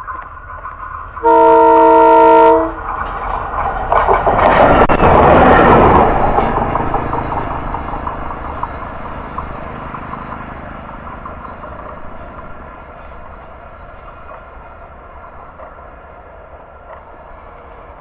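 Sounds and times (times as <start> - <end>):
diesel locomotive engine rumbling: 0.0 - 18.0.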